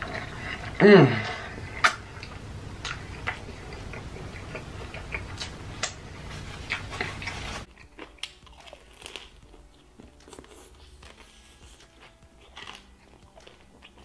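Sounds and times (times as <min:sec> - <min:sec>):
chewing fried chicken: 0:01.4 - 0:14.0.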